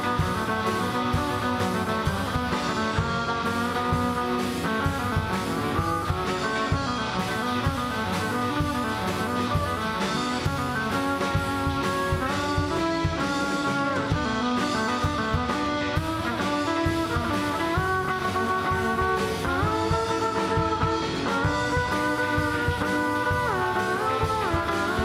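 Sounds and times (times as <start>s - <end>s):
drum kit: 0.0s - 25.0s
electric bass: 0.0s - 25.0s
electric guitars: 0.0s - 25.0s.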